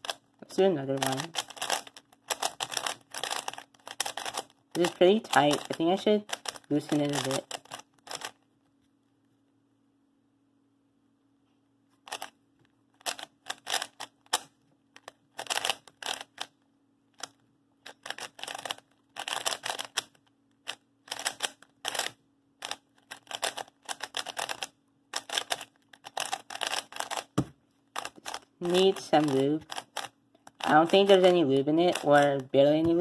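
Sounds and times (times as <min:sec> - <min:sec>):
puzzle cube plastic clicking: 0:01.0 - 0:08.4, 0:12.1 - 0:12.4, 0:13.0 - 0:33.0.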